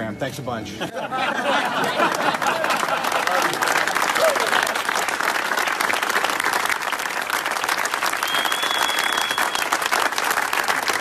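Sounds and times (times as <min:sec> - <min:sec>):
crowd clapping: 0:01.4 - 0:11.0.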